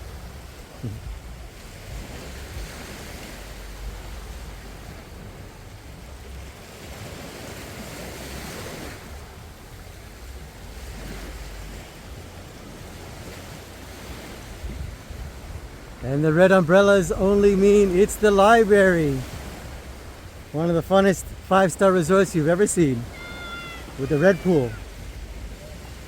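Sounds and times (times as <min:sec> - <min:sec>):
wind rumble on microphone: 0:00.0 - 0:20.6, 0:23.0 - 0:26.0
small waves washing on shore: 0:00.0 - 0:26.0.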